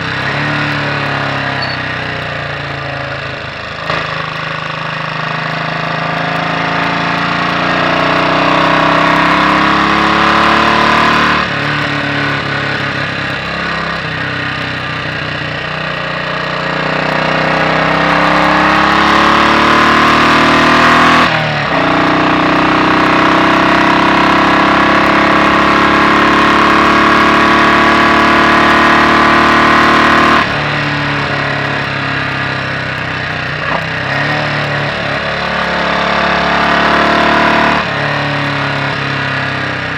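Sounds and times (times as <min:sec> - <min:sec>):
single-cylinder motorcycle engine: 0:00.0 - 0:39.9.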